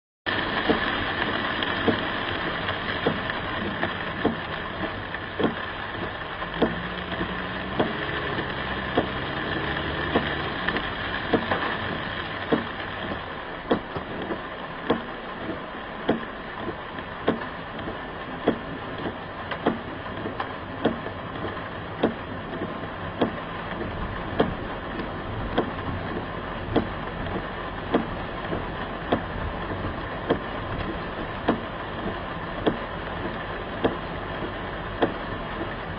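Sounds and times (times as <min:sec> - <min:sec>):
car engine running: 0:00.3 - 0:35.9
rain and rushing floodwater: 0:00.3 - 0:35.9.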